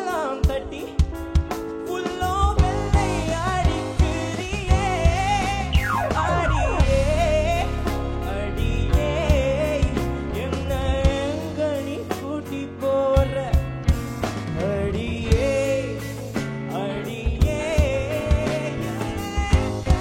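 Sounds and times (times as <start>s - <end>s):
band accompaniment: 0.0s - 20.0s
man singing with vibrato: 0.0s - 20.0s
regular drum beat: 0.0s - 20.0s.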